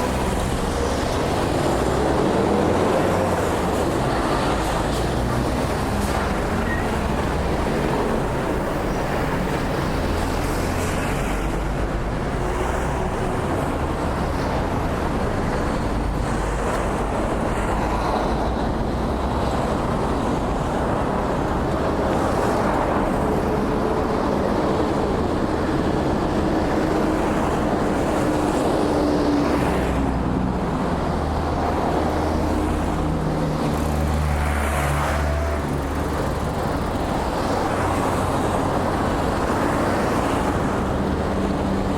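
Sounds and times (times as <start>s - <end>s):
cars passing on busy road: 0.0s - 41.9s.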